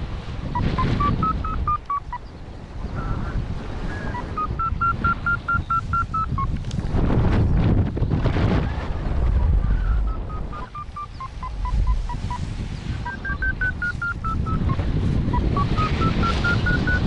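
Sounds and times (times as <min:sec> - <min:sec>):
wind on microphone: 0:00.0 - 0:17.0
variometer beeping: 0:00.5 - 0:06.6, 0:09.4 - 0:17.0.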